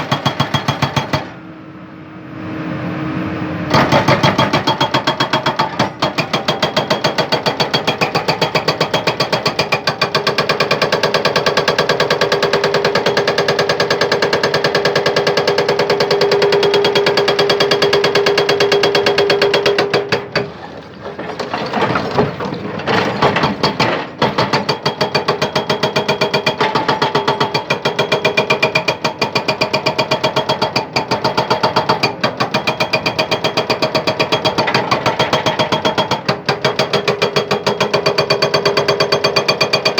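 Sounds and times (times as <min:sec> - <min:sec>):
hydraulic breaker hammering rock: 0:00.0 - 0:01.4, 0:03.7 - 0:39.9.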